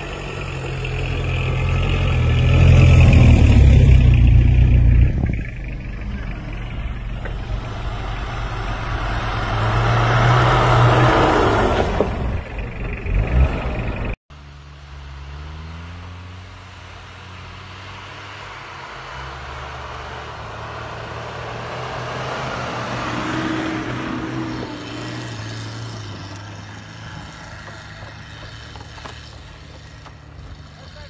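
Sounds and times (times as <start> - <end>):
vehicle engine under load: 0.0 - 31.0.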